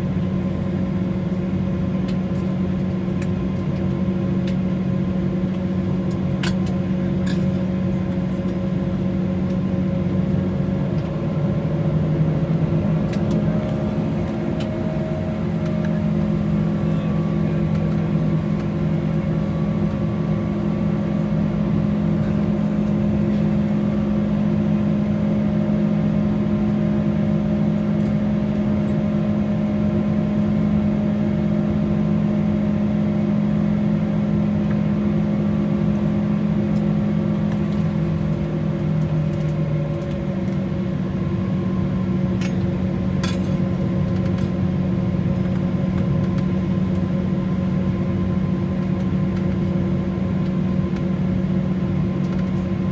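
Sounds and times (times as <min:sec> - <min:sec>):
jet engines idling in cabin: 0:00.0 - 0:52.9.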